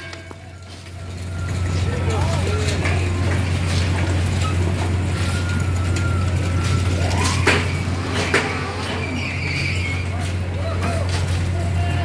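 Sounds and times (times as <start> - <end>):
carnival ride machinery hum: 0.0 - 12.0.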